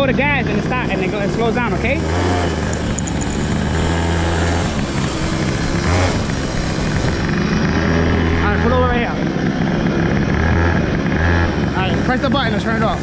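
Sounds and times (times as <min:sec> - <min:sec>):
small engine droning: 0:00.0 - 0:13.0.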